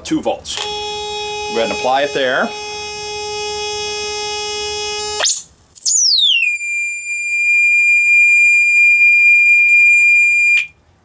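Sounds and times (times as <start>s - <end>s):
sine test tone: 0.6s - 10.7s
high whistle sliding down: 0.7s - 10.7s.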